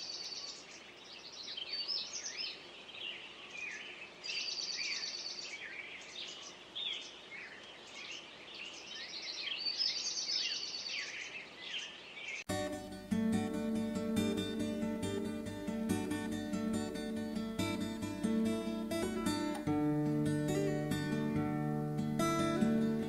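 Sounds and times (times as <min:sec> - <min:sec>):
songbirds chirping and trilling: 0:00.0 - 0:23.0.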